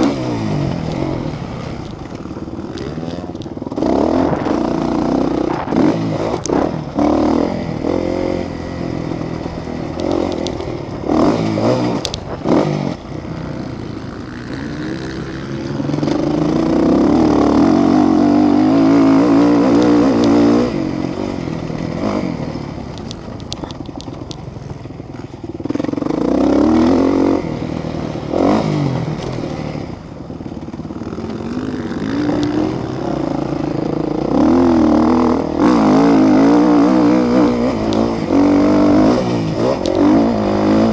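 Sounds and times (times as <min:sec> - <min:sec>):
motorcycles racing past: 0:00.0 - 0:23.2, 0:25.1 - 0:40.9.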